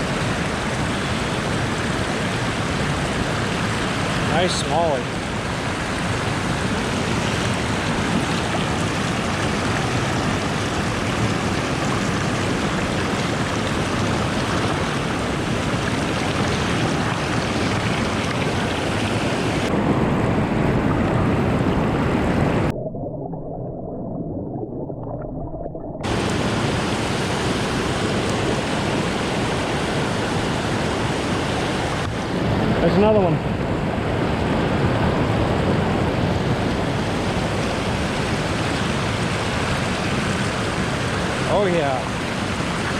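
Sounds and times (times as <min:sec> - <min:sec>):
river water rushing: 0:00.0 - 0:22.7, 0:26.0 - 0:42.9.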